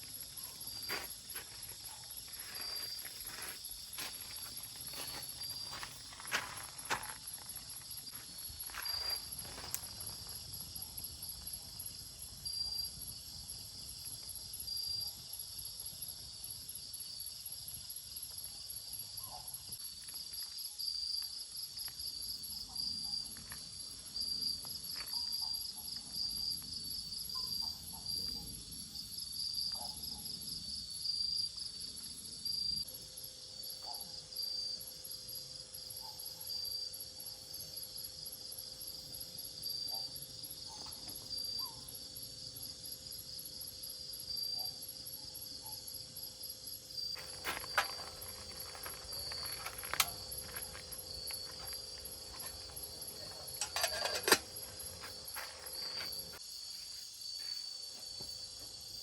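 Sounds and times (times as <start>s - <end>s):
insects buzzing: 0.0s - 29.9s, 30.6s - 59.0s
pulsing insect trill: 0.0s - 59.0s.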